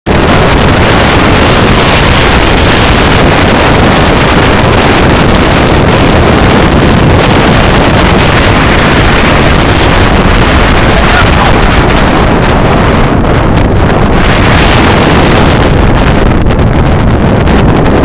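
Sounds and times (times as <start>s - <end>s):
strong wind blasting microphone: 0.0s - 18.0s.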